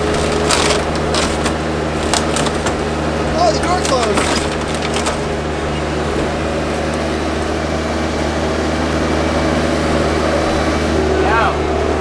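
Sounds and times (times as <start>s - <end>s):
heavy engine droning: 0.0s - 12.0s.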